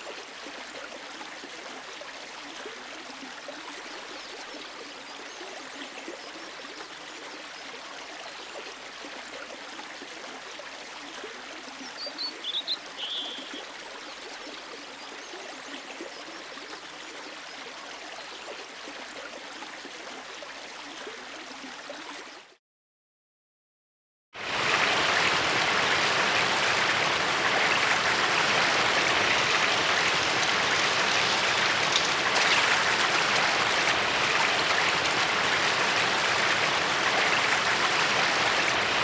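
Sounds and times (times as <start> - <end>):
water flowing and trickling: 0.0 - 22.6, 24.4 - 39.0.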